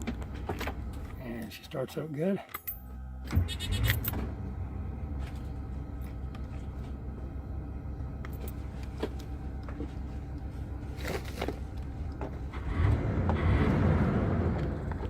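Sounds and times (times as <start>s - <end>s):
engine idling: 0.0s - 2.1s, 2.7s - 15.0s.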